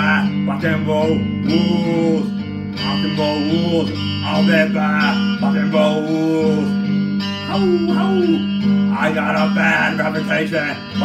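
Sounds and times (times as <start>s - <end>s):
man singing into microphone: 0.0s - 11.0s
strummed electric guitar: 0.0s - 11.0s.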